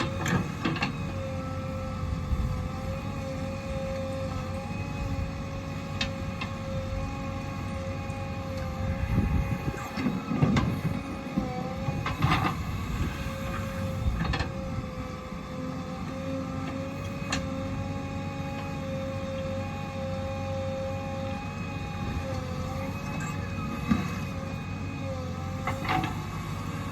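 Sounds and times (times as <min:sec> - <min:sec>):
diesel machinery whining: 0:00.0 - 0:26.9.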